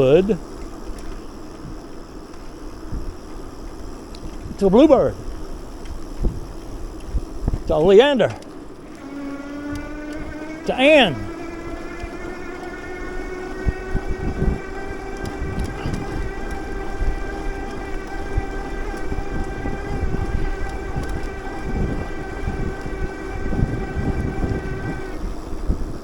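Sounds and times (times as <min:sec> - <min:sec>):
electric bike motor whine: 0:00.0 - 0:26.0
tyres rumbling on road: 0:00.0 - 0:26.0
wind noise on microphone: 0:00.0 - 0:26.0.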